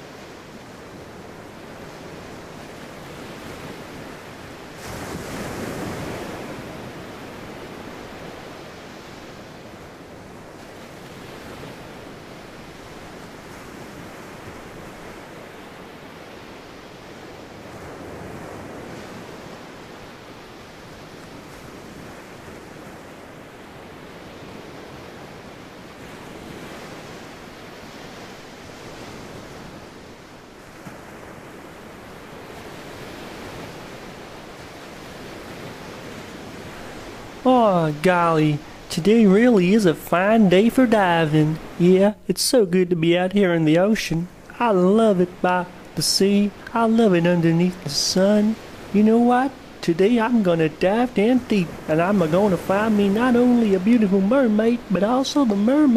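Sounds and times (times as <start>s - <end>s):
ocean waves washing: 0.0s - 55.9s.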